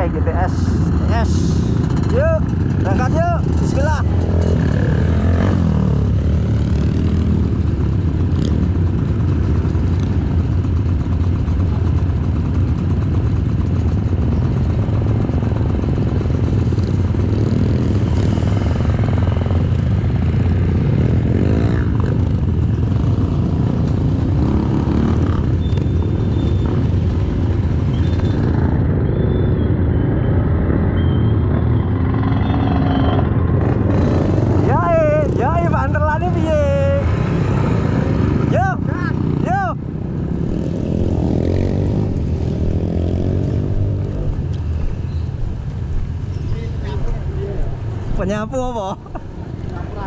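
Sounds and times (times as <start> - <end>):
motorcycle engine rumbling: 0.0 - 50.0.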